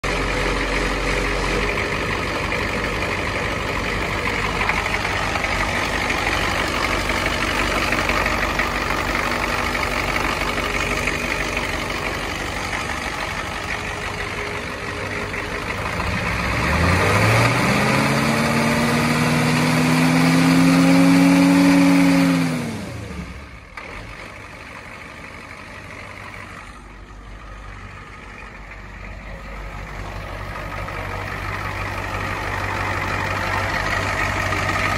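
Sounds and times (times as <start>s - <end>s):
diesel engine running and revving: 0.0s - 34.9s.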